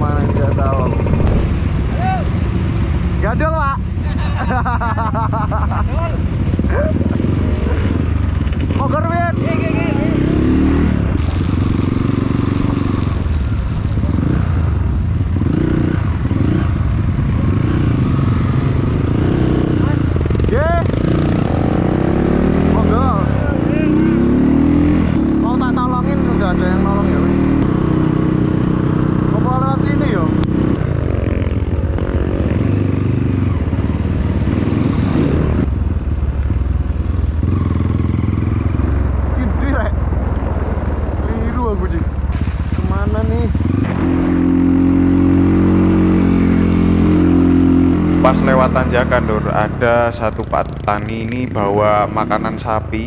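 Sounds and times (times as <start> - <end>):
motorcycle engine revving: 0.0 - 3.4, 6.3 - 53.0.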